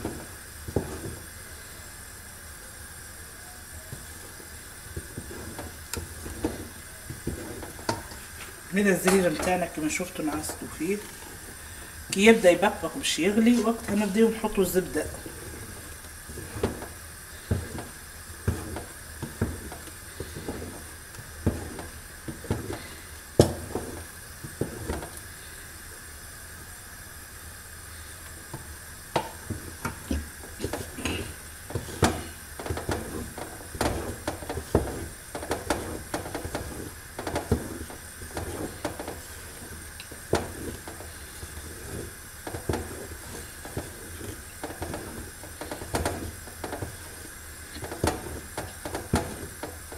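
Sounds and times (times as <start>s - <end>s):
wooden spoon scraping a pot: 0.0s - 1.4s, 3.9s - 25.6s, 28.0s - 49.9s
faint steady hiss: 0.0s - 49.9s.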